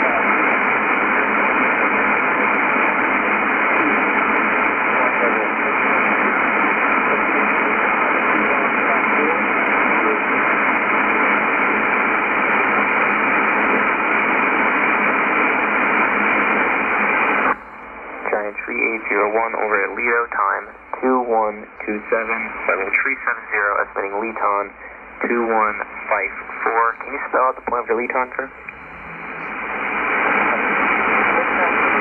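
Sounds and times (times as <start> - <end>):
radio static and hiss: 0.0 - 32.0.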